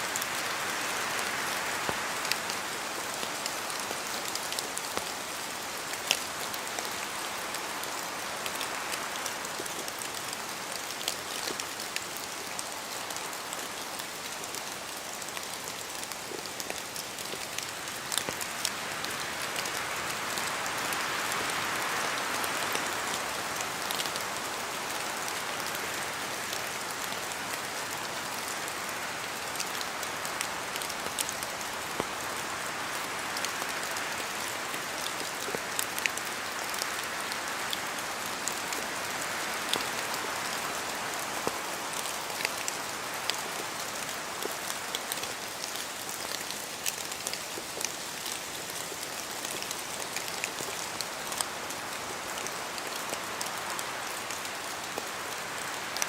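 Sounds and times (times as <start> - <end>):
steady rain hiss: 0.0 - 56.0
wind through trees: 0.0 - 56.0.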